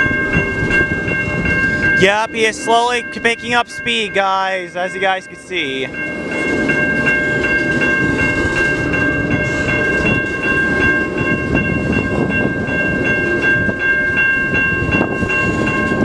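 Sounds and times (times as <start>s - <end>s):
crossing warning bell ringing: 0.0s - 16.0s
train wheels rumbling on rail: 0.0s - 16.0s.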